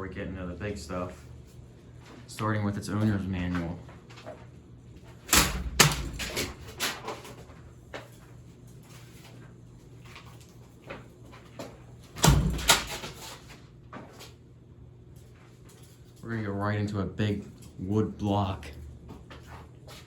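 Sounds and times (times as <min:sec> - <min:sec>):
ceiling fan motor humming: 0:00.0 - 0:20.0.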